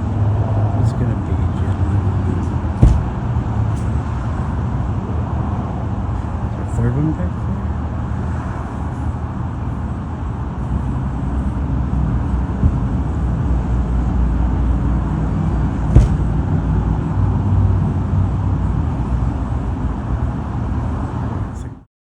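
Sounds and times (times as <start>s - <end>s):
low rumble of vehicle: 0.0s - 21.9s.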